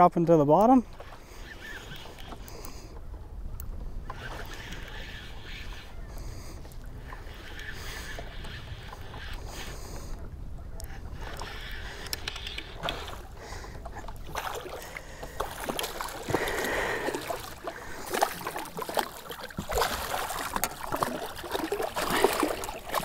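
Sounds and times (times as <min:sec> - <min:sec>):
water lapping against boat: 0:00.7 - 0:23.0.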